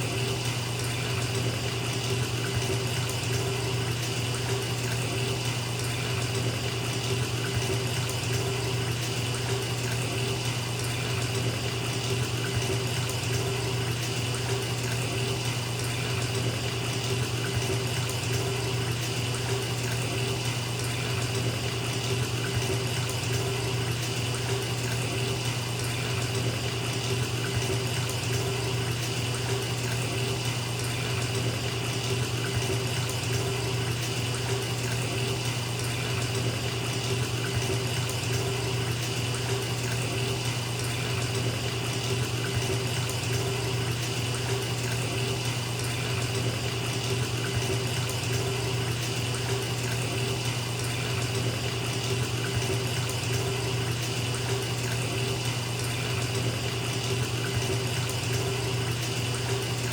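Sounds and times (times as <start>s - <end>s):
bathtub faucet running: 0.0s - 59.9s.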